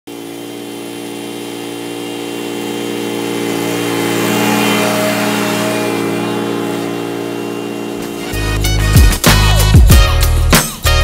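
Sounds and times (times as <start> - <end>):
lawn mower engine running: 0.1 - 11.0.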